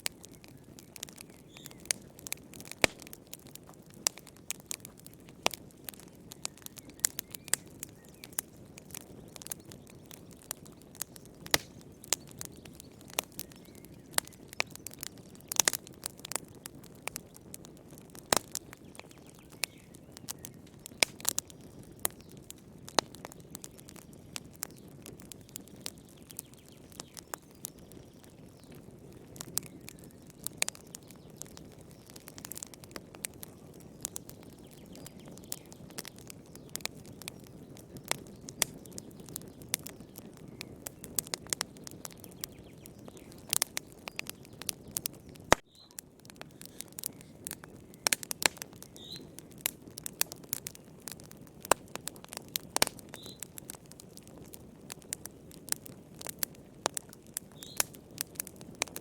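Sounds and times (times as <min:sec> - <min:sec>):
soft hiss of flames: 0:00.0 - 0:27.4, 0:28.0 - 0:59.0
fire crackling and popping: 0:00.0 - 0:59.0.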